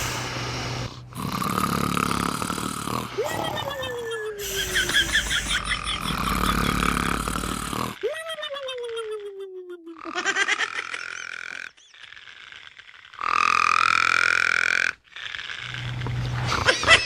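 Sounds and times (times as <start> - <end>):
snoring with croaks and grunts: 0.0 - 8.0, 9.9 - 17.0.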